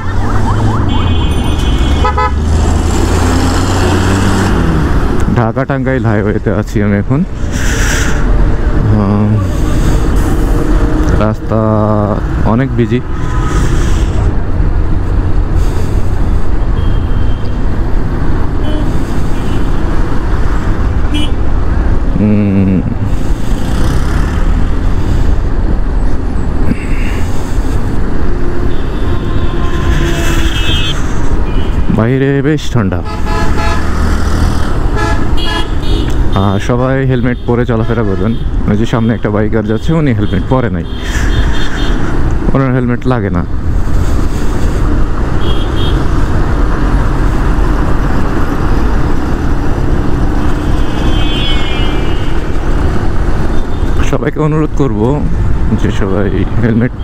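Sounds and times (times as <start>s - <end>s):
motorcycle engine and road noise: 0.0s - 57.0s.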